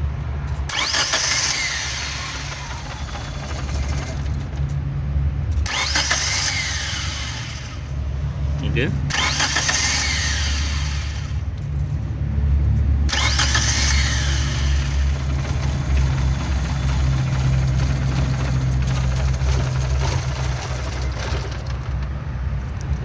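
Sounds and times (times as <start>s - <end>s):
car engine starting and running: 0.0s - 23.0s.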